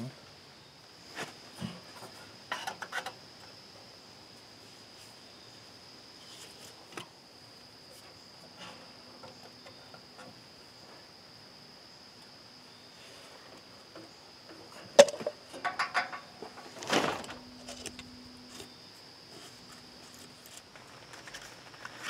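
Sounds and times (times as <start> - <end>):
insect trill: 0.0 - 22.0.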